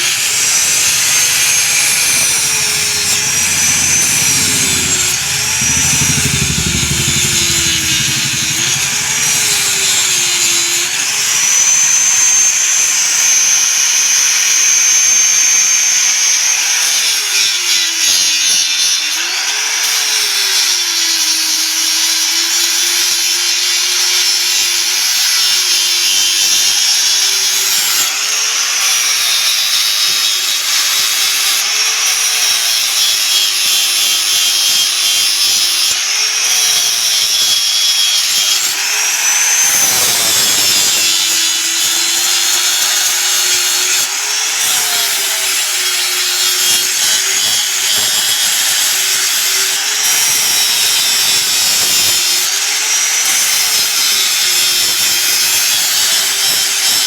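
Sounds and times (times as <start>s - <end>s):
electric grinder grinding steel: 0.0s - 57.0s.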